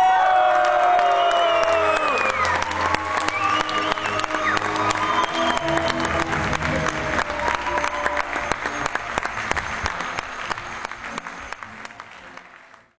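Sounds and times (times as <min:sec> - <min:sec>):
audience applauding: 0:00.0 - 0:13.0
music notes: 0:02.0 - 0:12.6.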